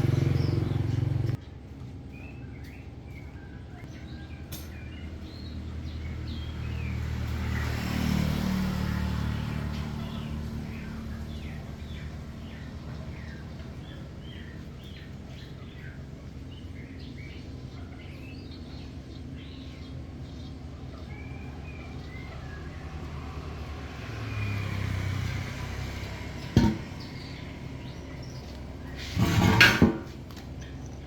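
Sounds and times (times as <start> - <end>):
vehicle passing: 0.0 - 1.4, 4.9 - 17.6, 18.8 - 30.7
small birds chirping: 0.0 - 29.6, 30.2 - 31.0
low engine hum: 0.0 - 31.0.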